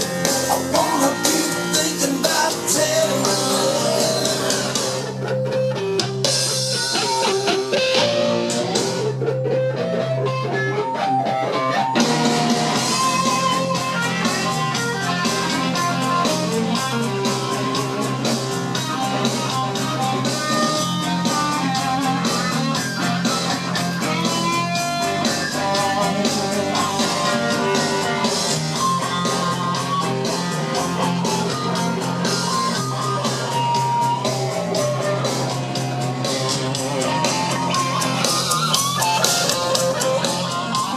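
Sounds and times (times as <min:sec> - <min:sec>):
guitar-led rock music: 0:00.0 - 0:40.9.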